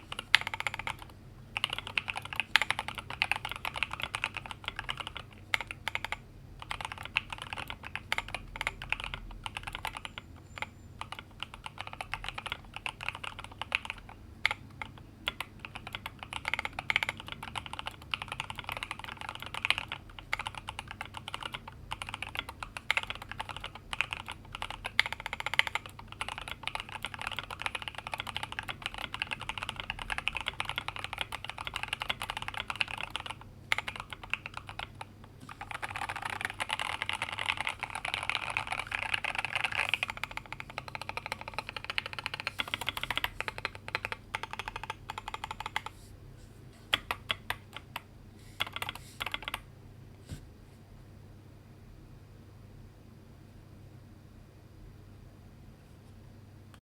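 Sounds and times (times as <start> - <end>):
mechanical keyboard typing: 0.0 - 46.0, 46.9 - 49.7.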